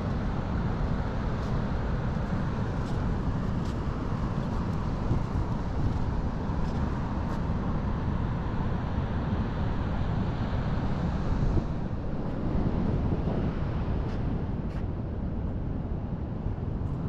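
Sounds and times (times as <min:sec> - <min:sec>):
wind buffeting microphone: 0:00.0 - 0:08.6, 0:09.9 - 0:17.0.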